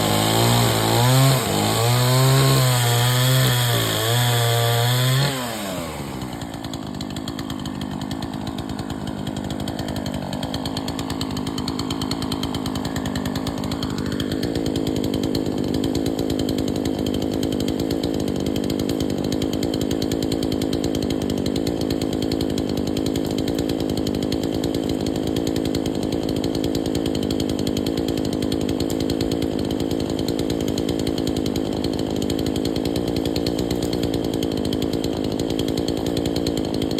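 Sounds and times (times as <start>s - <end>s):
chainsaw engine running: 0.0s - 36.9s.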